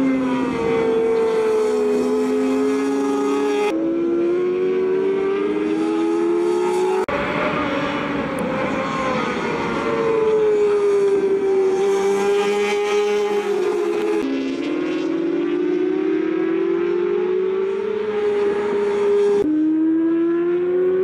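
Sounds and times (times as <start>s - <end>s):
racing motorcycle engines: 0.0s - 21.0s.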